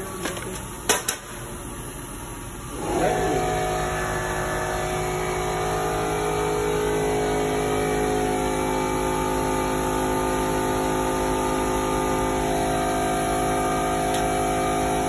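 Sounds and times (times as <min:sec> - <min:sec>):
folding machine motor running: 0:02.3 - 0:15.0.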